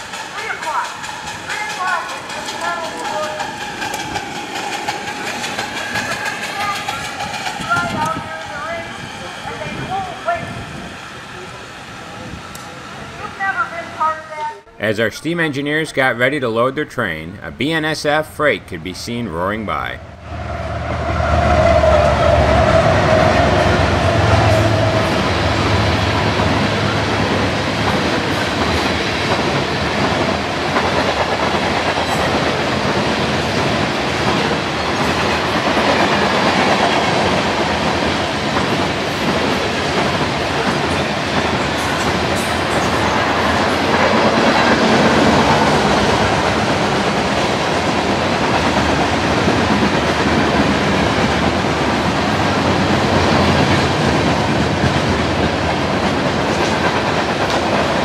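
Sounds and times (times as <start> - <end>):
freight train rumbling past: 0.0 - 16.3, 17.3 - 58.0.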